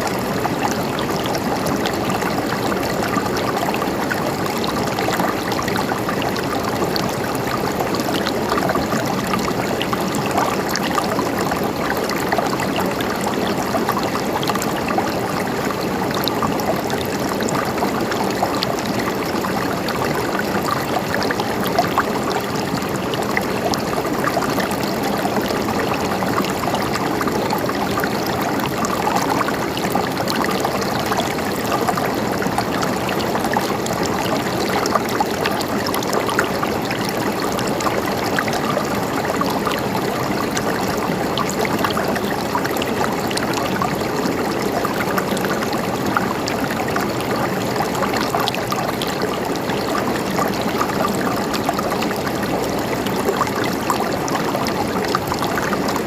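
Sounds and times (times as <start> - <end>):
stream water gurgling: 0.0 - 56.0.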